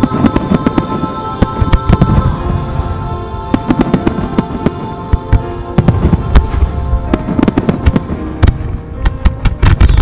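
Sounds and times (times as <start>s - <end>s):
fireworks bursting with bangs: 0.0s - 10.0s
music playing: 0.0s - 10.0s.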